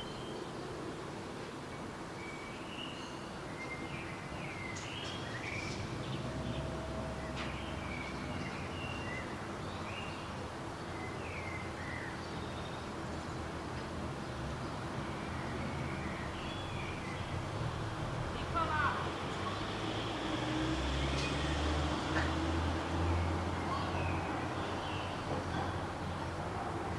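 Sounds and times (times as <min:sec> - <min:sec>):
outdoor background hiss: 0:00.0 - 0:26.9
songbirds chirping: 0:00.0 - 0:26.9.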